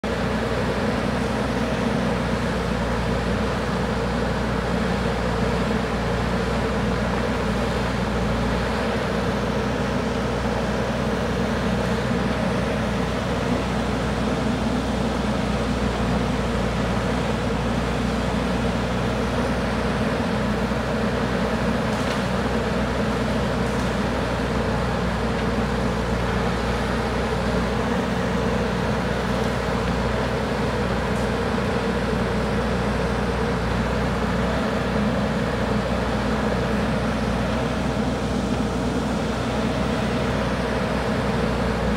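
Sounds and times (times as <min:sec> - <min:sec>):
diesel engine running steadily: 0:00.0 - 0:41.9.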